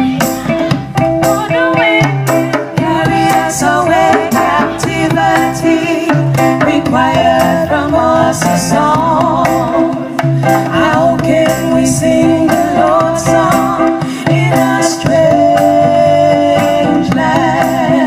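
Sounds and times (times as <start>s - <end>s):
live reggae band playing: 0.0s - 18.0s.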